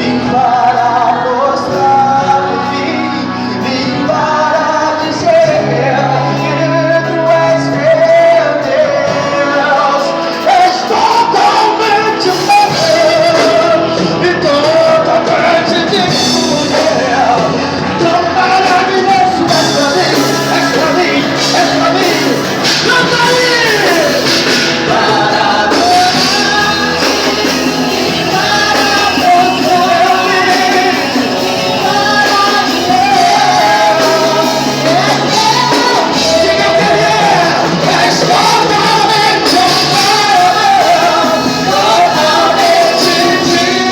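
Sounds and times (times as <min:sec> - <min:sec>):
band accompaniment: 0:00.0 - 0:43.9
group singing worship music: 0:00.0 - 0:43.9.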